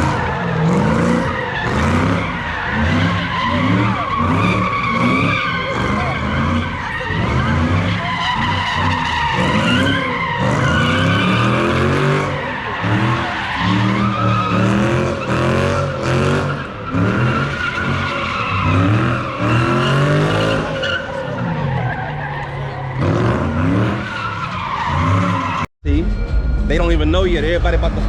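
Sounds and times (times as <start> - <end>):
car engine revving: 0.0 - 25.7
tire squeal: 0.0 - 26.4.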